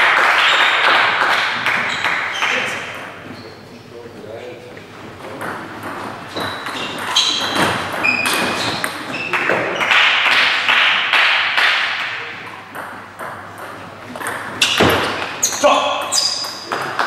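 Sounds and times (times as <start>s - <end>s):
table tennis balls bouncing: 0.0s - 3.4s, 5.1s - 17.0s.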